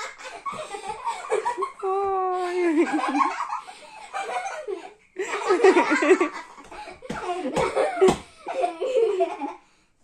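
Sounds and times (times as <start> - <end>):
girls laughing: 0.0 - 9.7.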